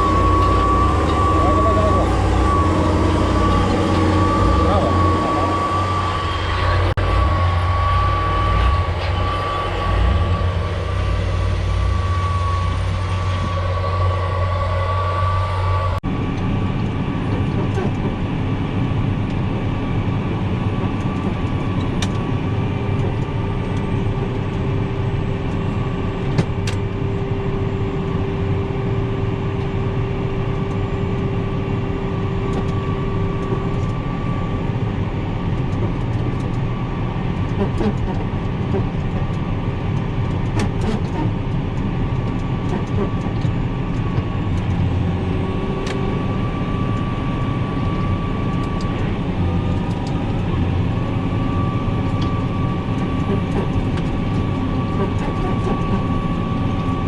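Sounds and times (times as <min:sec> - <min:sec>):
tractor engine droning with whine: 0:00.0 - 0:57.0.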